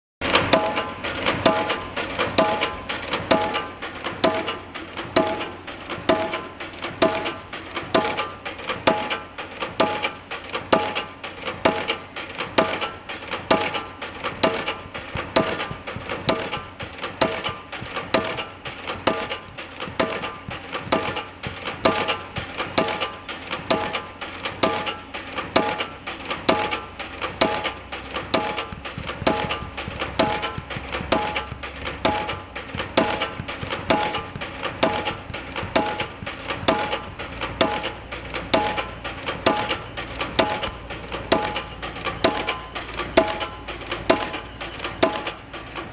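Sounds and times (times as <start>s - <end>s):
pile driver hammering: 0.2s - 45.9s.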